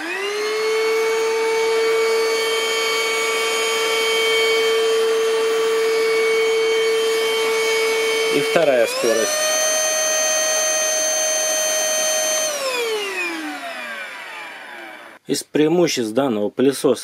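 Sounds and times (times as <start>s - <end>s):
stick vacuum cleaner running: 0.0s - 15.2s.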